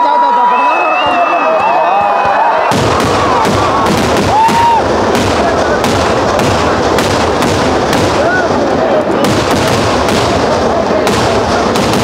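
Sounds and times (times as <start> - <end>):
crowd voices: 0.0 - 12.0
fireworks bangs and crackle: 1.5 - 12.0.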